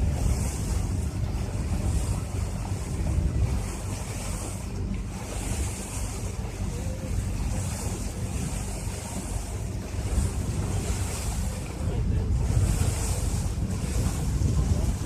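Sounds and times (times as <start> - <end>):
boat engine rumble: 0.0 - 15.0
rushing water: 0.0 - 15.0
wind buffeting microphone: 0.0 - 15.0.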